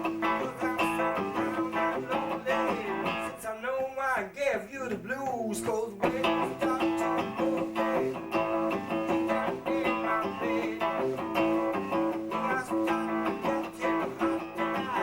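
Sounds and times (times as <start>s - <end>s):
live rock band: 0.0s - 3.6s, 4.8s - 15.0s.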